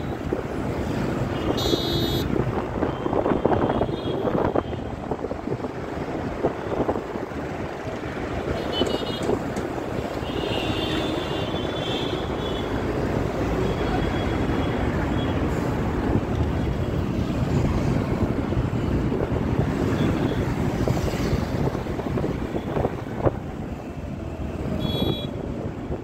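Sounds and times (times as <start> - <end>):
road noise and wind: 0.0 - 26.0
traffic alongside: 0.0 - 26.0.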